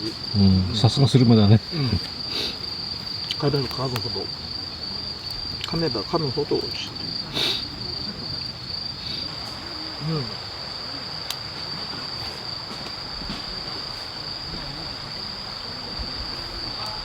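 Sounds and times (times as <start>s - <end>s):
crickets chirring: 0.0s - 17.0s
faint low murmuring voices: 0.0s - 17.0s.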